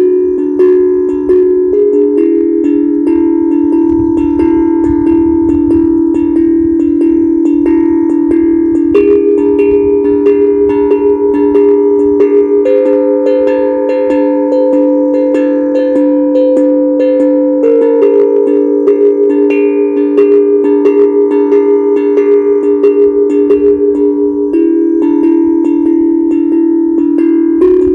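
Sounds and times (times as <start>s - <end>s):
steel tongue drum notes: 0.0s - 27.9s.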